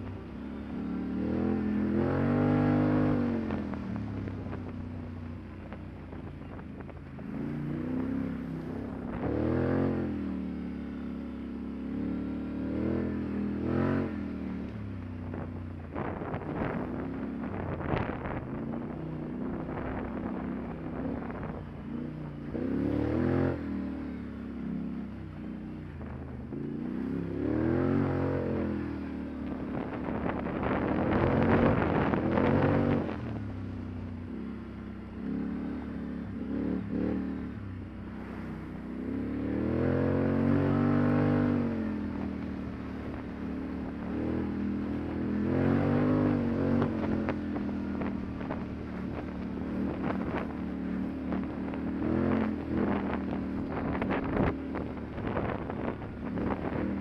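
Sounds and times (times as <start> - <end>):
atv engine revving: 0.0 - 5.3, 7.1 - 57.0.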